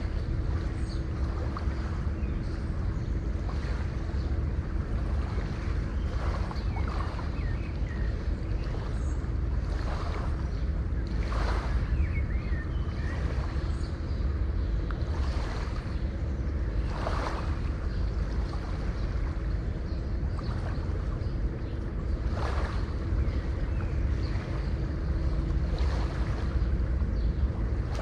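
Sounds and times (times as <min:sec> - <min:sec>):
low surf rumble: 0:00.0 - 0:28.0.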